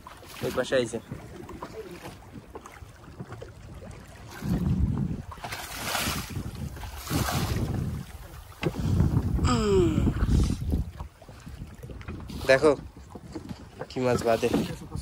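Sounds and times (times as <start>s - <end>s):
waves splashing against boat: 0.0s - 15.0s
wind buffeting microphone: 0.6s - 15.0s.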